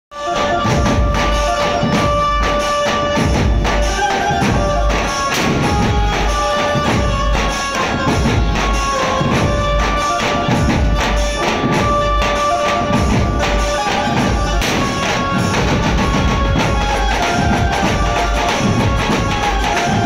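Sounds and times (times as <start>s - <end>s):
barrel drums beaten fast: 0.1s - 20.0s
held melody line: 0.1s - 20.0s.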